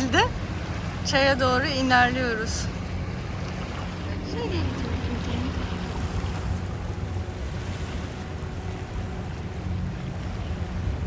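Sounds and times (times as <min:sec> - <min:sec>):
boat engine humming: 0:00.0 - 0:11.0
water rushing: 0:00.0 - 0:11.0.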